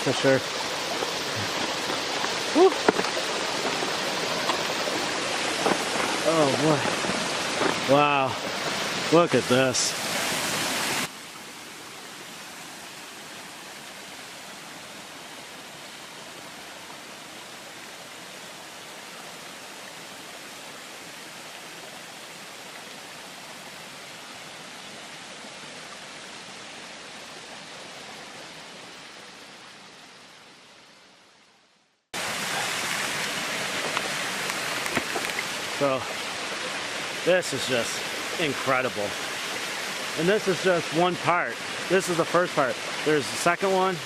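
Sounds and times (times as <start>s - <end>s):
waterfall rushing: 0.0s - 24.7s, 32.2s - 44.0s.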